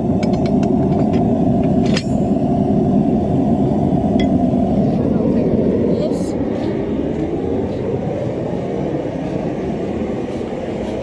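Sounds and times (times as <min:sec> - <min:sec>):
forge roaring: 0:00.0 - 0:11.0.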